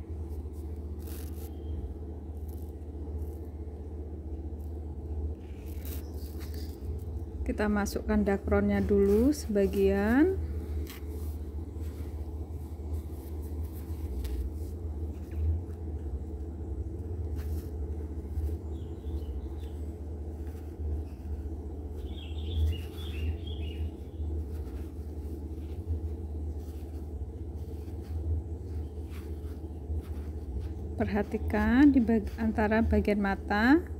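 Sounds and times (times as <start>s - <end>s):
soft handling noises: 0.0s - 3.7s, 4.4s - 33.8s
low background rumble: 0.0s - 33.9s.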